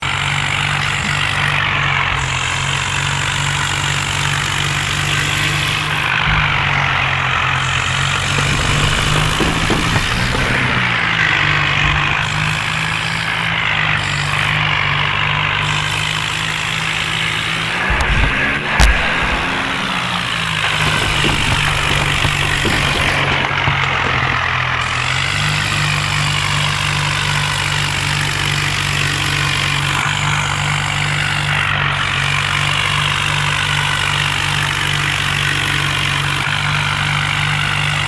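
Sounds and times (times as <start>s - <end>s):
constant rushing noise: 0.0s - 38.0s
tractor diesel engine running: 0.0s - 38.0s.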